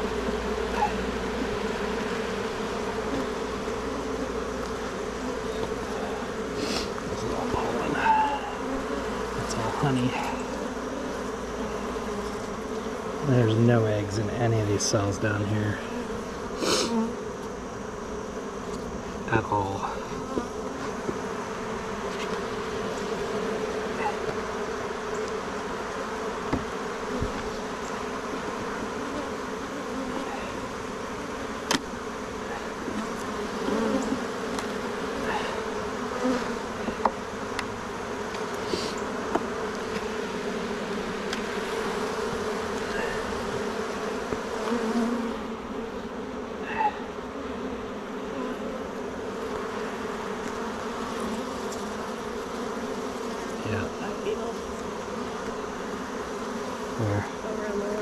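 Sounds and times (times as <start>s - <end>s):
honeybees humming: 0.0s - 58.0s.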